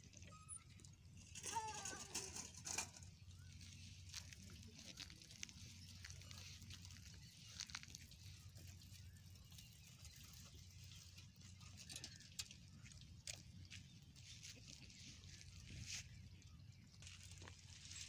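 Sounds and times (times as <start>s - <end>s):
goats cropping grass: 1.2s - 18.0s.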